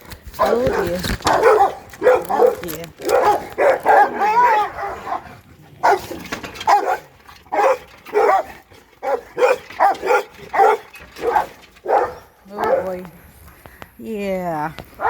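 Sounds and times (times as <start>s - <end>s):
dogs barking: 0.3s - 13.0s.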